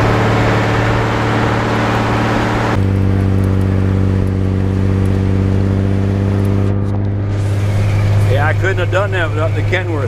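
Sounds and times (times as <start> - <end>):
heavy diesel truck engine: 0.0 - 10.0.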